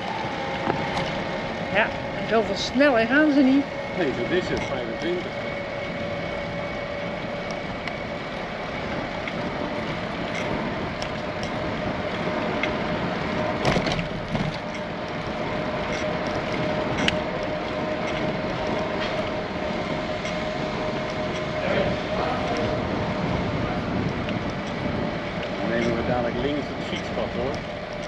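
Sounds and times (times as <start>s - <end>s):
bicycle rolling noise: 0.0s - 28.0s
bicycle clicks and rattles: 4.1s - 28.0s.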